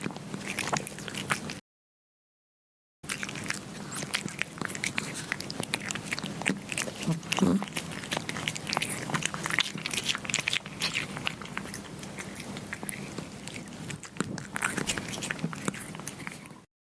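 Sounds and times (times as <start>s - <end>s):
kittens chewing meat: 0.0s - 1.6s, 3.0s - 16.7s.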